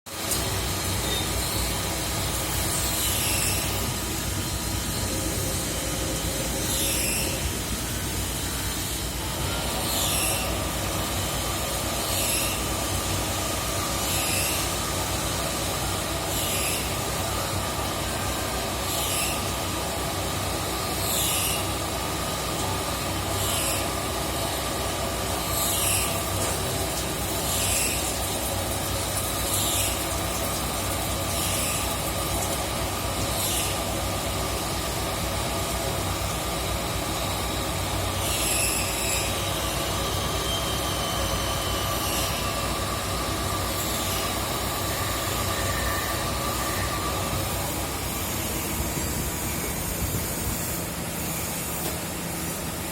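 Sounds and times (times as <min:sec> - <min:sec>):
lathe machine hum: 0:00.2 - 0:52.9.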